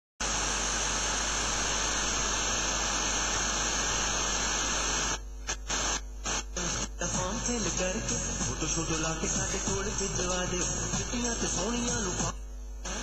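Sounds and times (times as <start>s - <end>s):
radio static hiss: 0.2s - 13.0s.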